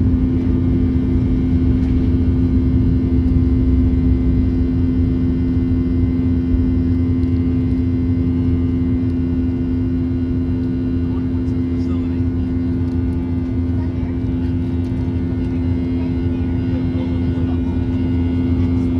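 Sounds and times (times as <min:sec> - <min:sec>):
jet engines droning in cabin: 0:00.0 - 0:18.9.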